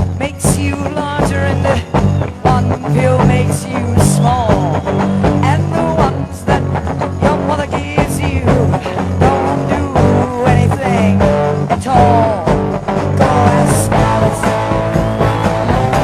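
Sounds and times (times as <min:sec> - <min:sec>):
psychedelic rock band playing: 0:00.0 - 0:16.0
electric guitar bending notes: 0:01.8 - 0:16.0.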